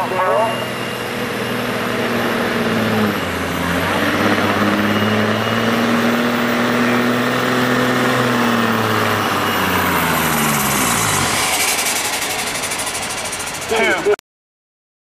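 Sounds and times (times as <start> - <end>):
truck diesel engine under load: 0.0 - 14.2.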